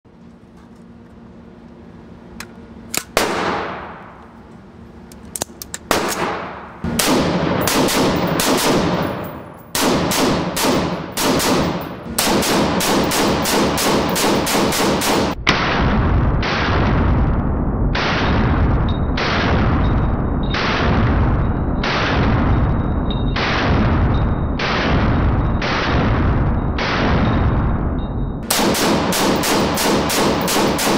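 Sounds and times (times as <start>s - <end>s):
rifle shots echoing indoors: 2.9s - 4.2s, 5.9s - 30.9s.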